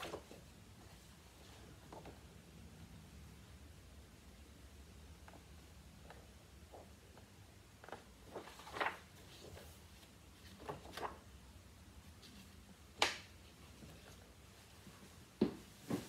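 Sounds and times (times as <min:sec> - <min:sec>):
music books rustling: 0:00.0 - 0:02.4, 0:05.2 - 0:16.0.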